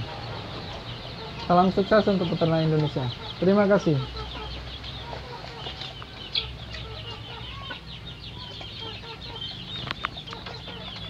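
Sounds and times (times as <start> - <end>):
chicks cheeping: 0.0 - 11.0.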